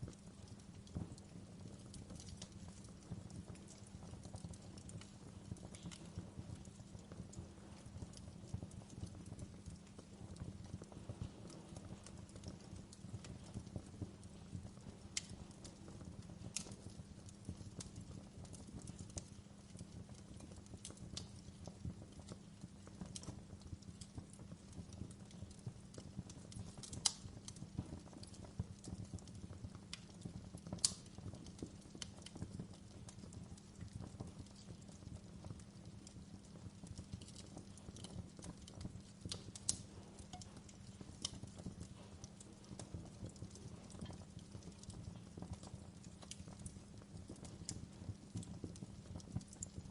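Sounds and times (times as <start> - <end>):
sharp pops from fire: 0.0 - 49.9
wood fire crackling: 0.0 - 49.9.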